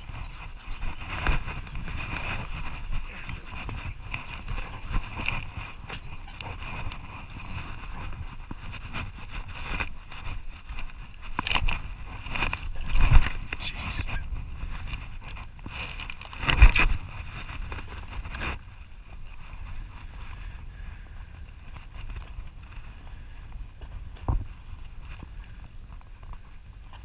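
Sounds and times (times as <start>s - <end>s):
wind noise: 0.0s - 27.0s.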